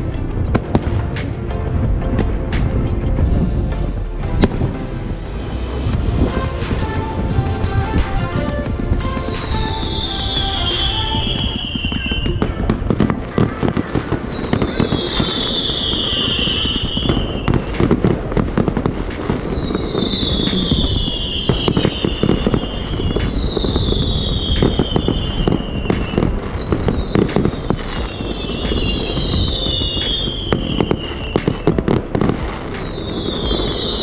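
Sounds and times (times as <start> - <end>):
whistling fireworks: 0.0 - 1.5, 5.7 - 34.0
firework cracks and bangs: 0.0 - 34.0.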